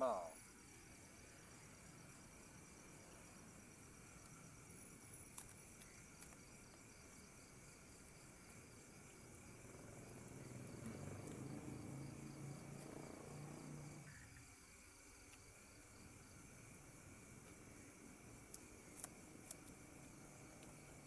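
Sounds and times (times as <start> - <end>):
crickets chirping: 0.0 - 21.0
faint low hum: 0.0 - 21.0.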